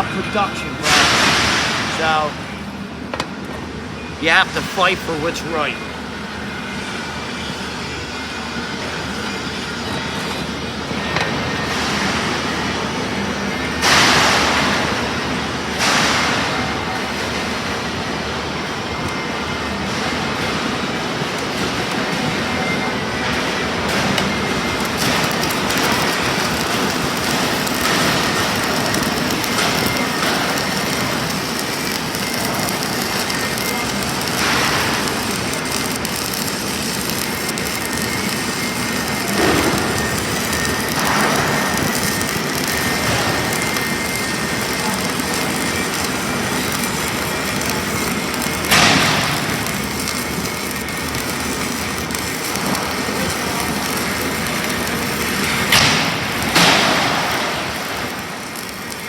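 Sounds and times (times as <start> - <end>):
crackling welding arc: 0.0 - 59.0.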